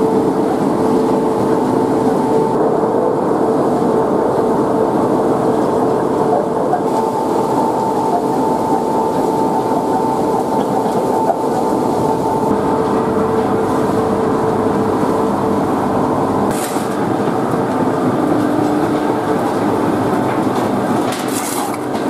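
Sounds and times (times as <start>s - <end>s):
machinery running with whine: 0.0s - 22.0s.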